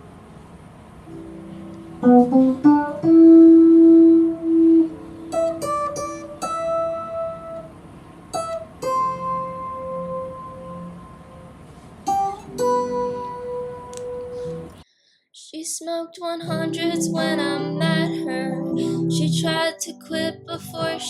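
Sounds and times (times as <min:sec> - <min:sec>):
guitar plucked notes and chords: 0:01.1 - 0:14.8, 0:16.5 - 0:21.0.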